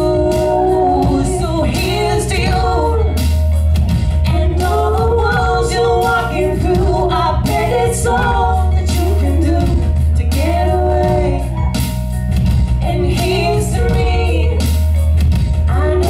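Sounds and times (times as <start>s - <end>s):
two women singing in harmony: 0.0s - 3.3s, 4.2s - 11.8s, 12.8s - 15.0s, 15.7s - 16.0s.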